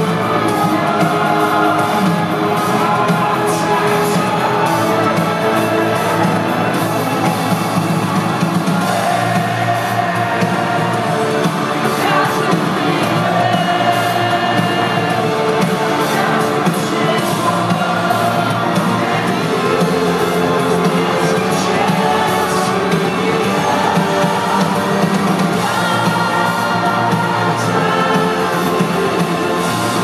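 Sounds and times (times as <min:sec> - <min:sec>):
bass and drums: 0:00.0 - 0:30.0
distorted electric guitar: 0:00.0 - 0:30.0
person singing: 0:00.0 - 0:30.0.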